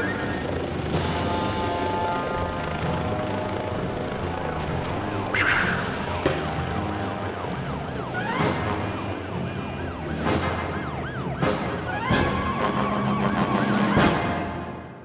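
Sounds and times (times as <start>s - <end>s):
siren wailing: 0.0s - 14.8s.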